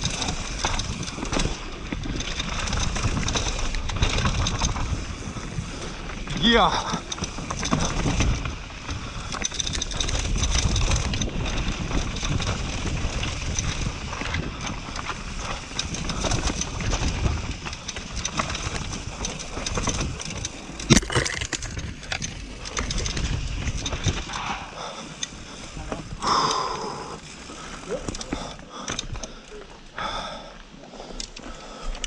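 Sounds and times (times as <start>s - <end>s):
wind buffeting microphone: 0.0s - 29.3s
bike rattling: 0.0s - 32.0s.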